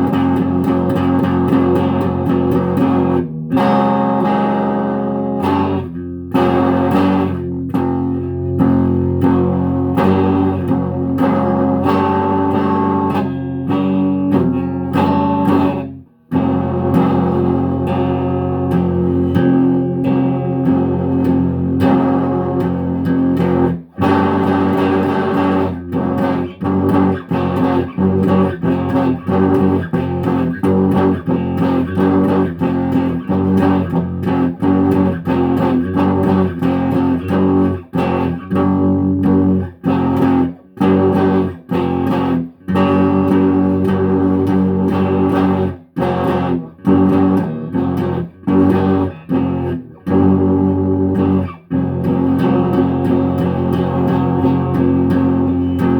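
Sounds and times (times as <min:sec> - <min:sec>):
guitar playing: 0:00.0 - 0:55.9.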